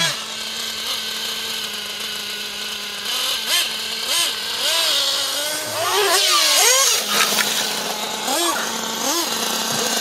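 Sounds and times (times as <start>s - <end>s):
toy car motor revving: 0.0s - 10.0s.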